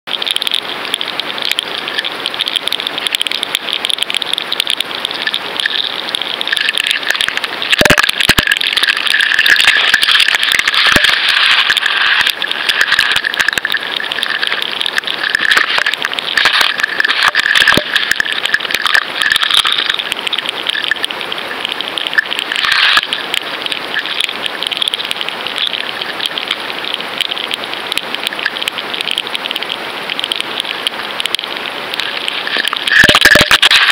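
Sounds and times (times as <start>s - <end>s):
underwater crackling and popping: 0.1s - 33.9s.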